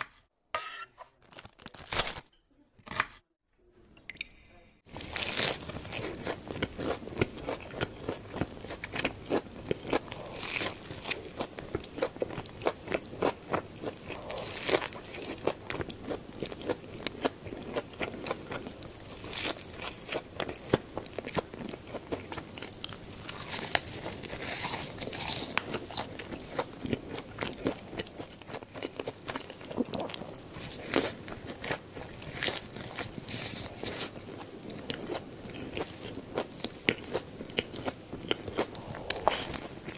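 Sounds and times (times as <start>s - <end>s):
chewing with crunches: 4.9s - 39.9s.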